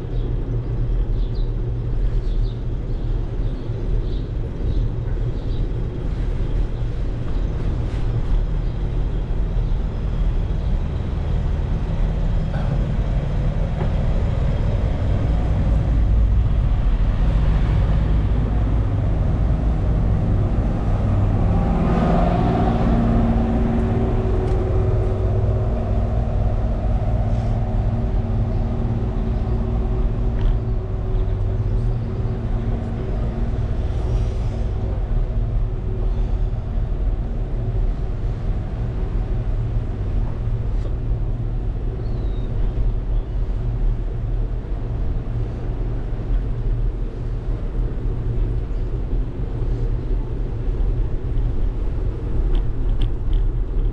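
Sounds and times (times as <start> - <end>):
motor vehicle engine hum: 0.0 - 53.9
wind and road rumble: 0.0 - 53.9.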